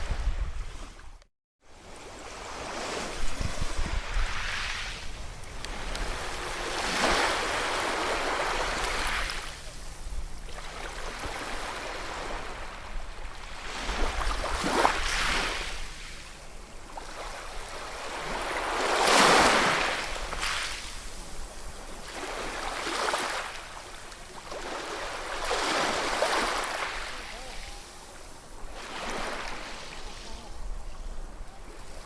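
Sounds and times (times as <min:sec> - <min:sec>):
ocean waves surging and washing: 0:01.8 - 0:32.0.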